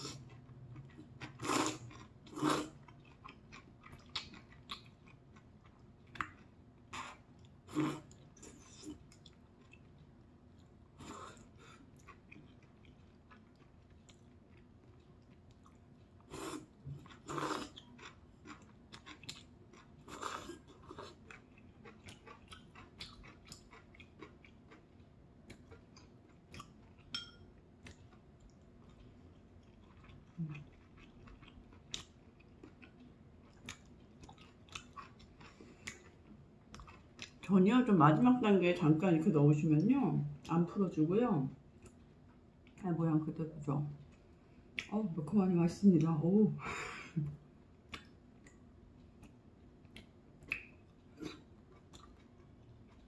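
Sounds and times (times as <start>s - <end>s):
close-up chewing: 0.0s - 37.5s, 41.6s - 42.8s, 47.4s - 53.0s.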